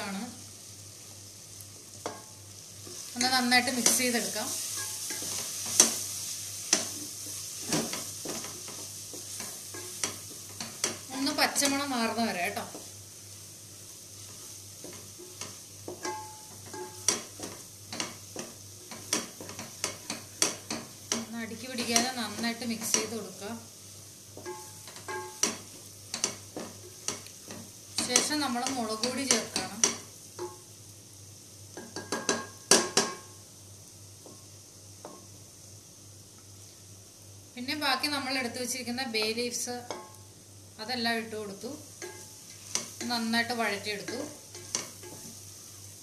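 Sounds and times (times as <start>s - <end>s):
vegetables sizzling in oil: 0.0s - 46.0s.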